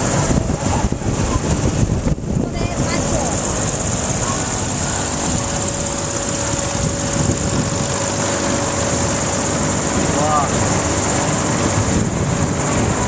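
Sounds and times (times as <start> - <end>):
faint machinery hum: 0.0 - 13.0
wind buffeting microphone: 0.0 - 13.0.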